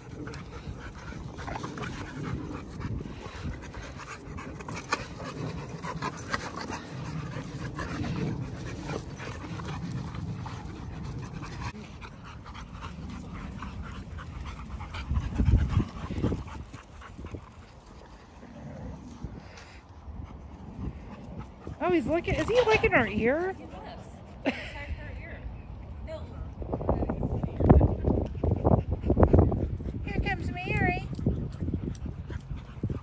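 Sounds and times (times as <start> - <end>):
dogs panting: 0.0 - 24.9, 25.6 - 33.0.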